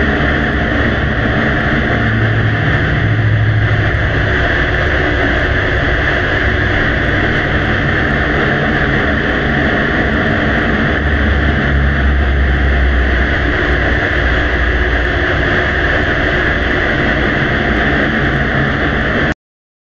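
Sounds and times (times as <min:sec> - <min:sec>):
hiss and rumble: 0:00.0 - 0:19.3
low hum: 0:00.0 - 0:19.3.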